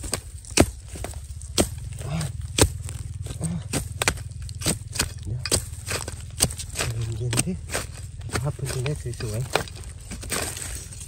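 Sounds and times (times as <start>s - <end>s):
spade chopping into soil: 0.0s - 10.8s.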